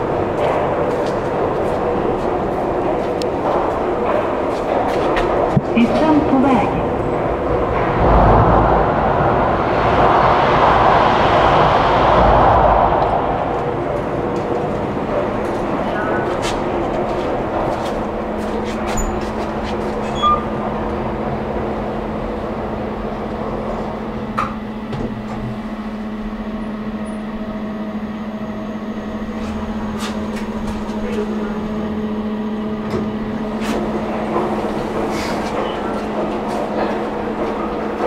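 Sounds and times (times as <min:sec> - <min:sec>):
elevator electric hum: 0:00.0 - 0:38.0.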